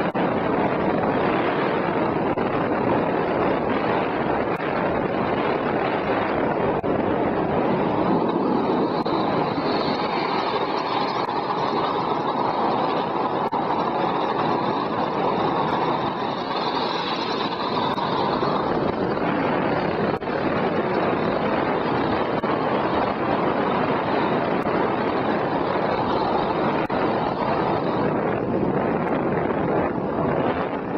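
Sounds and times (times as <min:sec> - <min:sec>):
wheels on wet road: 0:00.0 - 0:30.9
wind: 0:00.0 - 0:30.9.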